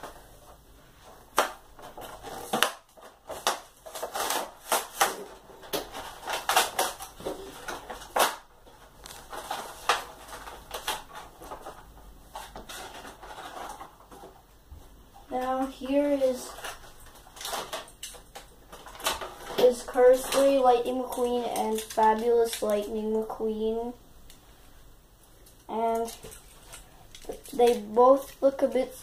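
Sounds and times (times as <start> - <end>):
plastic packaging crackling: 1.0 - 14.4, 15.3 - 23.9, 25.3 - 29.0.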